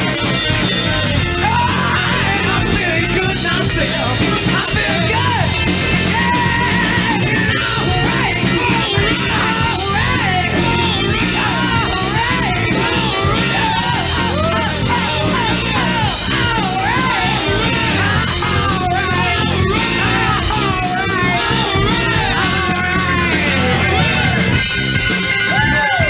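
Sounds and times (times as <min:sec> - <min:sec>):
instrumental rock band music: 0:00.0 - 0:26.0.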